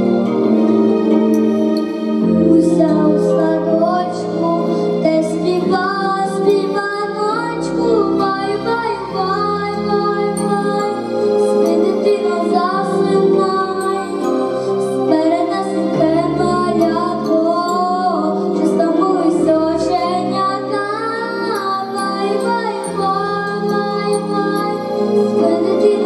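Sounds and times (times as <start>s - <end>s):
instrumental accompaniment of low notes: 0.0s - 26.0s
girl singing a lullaby: 2.3s - 14.5s, 15.1s - 24.8s, 25.4s - 26.0s.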